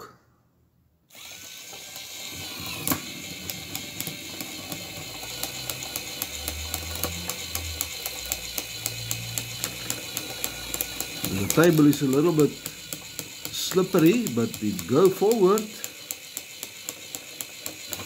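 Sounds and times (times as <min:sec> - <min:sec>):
regular clicking of walking robot: 0:01.1 - 0:18.0
small electric motor running: 0:01.1 - 0:18.0.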